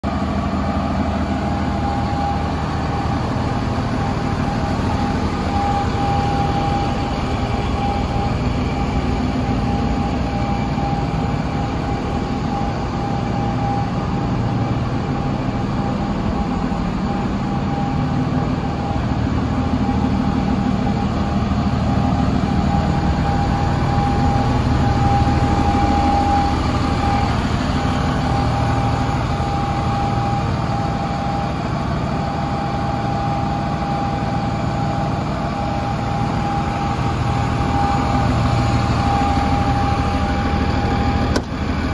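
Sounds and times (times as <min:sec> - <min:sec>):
constant high whine: 0:00.0 - 0:41.9
diesel engine idling: 0:00.0 - 0:41.9.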